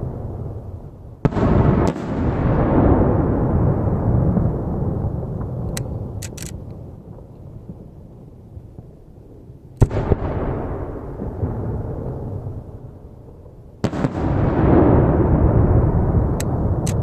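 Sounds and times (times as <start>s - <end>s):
rolling echo rumble: 0.0s - 17.0s.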